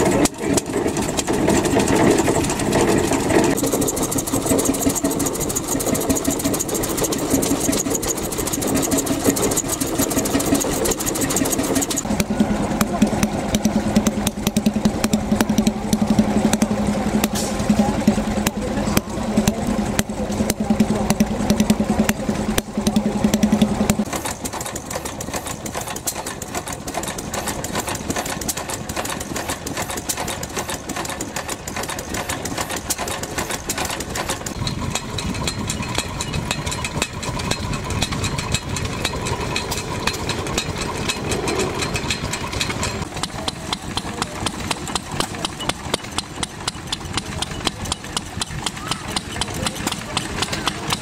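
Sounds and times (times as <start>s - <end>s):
flywheel engine clicking and firing: 0.0s - 51.0s
small engine running fast: 0.0s - 51.0s.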